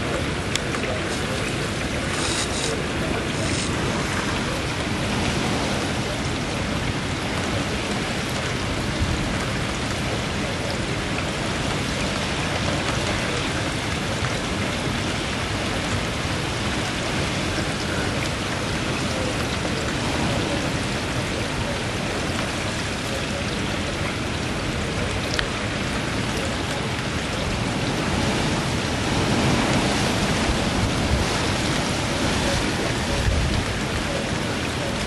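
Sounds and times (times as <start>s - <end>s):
hurricane wind: 0.0s - 35.0s
rain: 0.0s - 35.0s.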